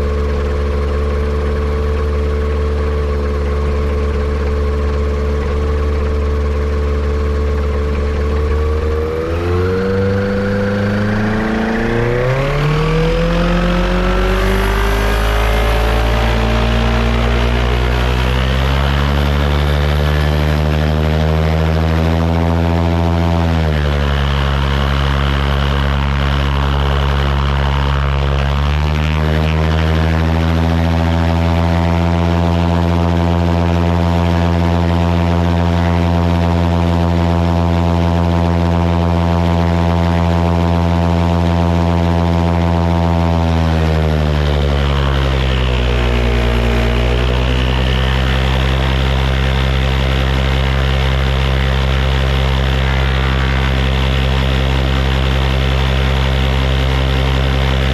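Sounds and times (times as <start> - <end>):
propeller engine running: 0.0 - 57.9.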